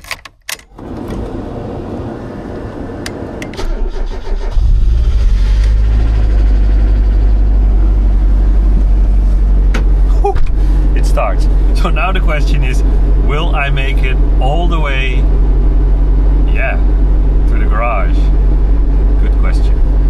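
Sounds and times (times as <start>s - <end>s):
car engine cranking and starting: 0.0s - 20.0s.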